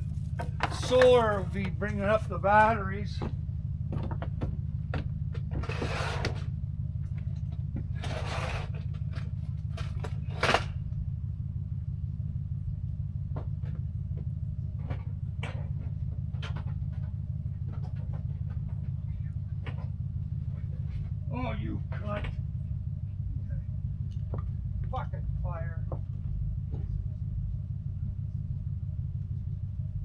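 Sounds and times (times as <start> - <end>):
low motor drone: 0.0 - 30.0.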